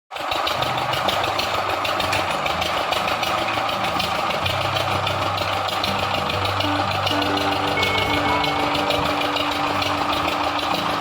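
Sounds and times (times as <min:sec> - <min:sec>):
heavy machine engine rattling: 0:00.1 - 0:11.0.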